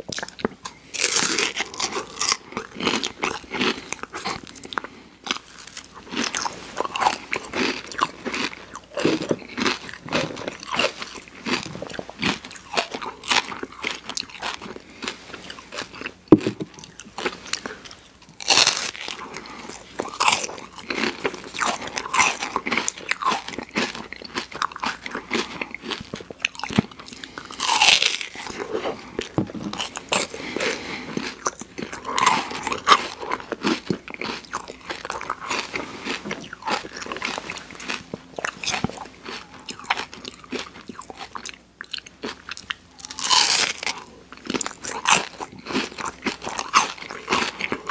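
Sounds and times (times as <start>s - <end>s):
crunching wafer cone: 0.1s - 47.9s.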